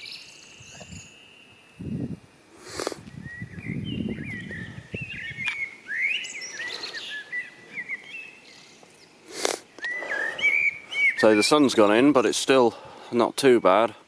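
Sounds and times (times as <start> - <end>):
songbird chirping and whistling: 0.0 - 11.7.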